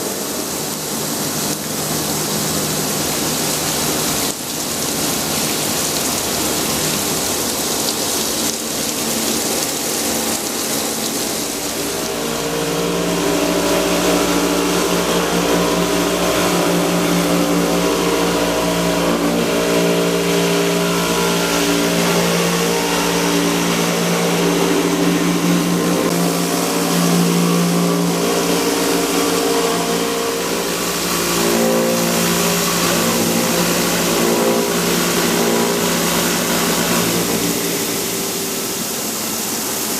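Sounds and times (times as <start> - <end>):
steady hums shifting in pitch: 0.0 - 39.9
stone-cutting saw running: 0.0 - 39.9
water spray hissing: 0.0 - 39.9.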